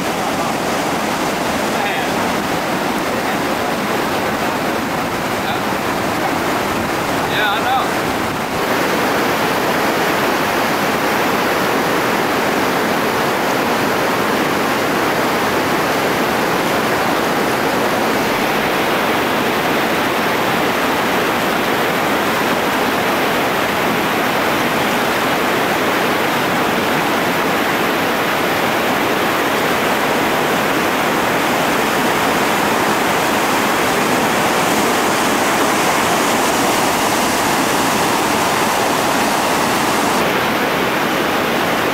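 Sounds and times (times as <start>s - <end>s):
whitewater rushing over boulders: 0.0s - 41.9s.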